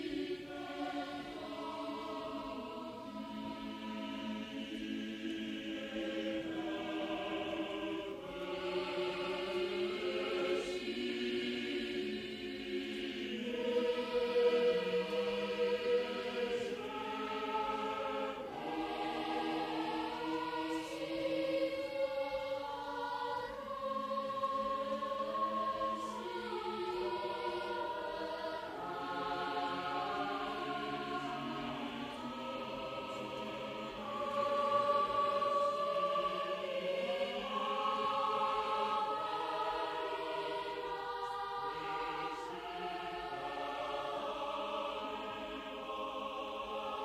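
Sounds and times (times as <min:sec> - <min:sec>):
choir singing sustained chords: 0:00.0 - 0:47.0.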